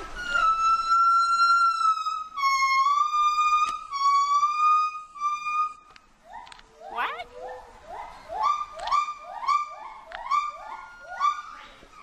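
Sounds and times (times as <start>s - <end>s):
gibbon hooting: 0.2s - 12.0s.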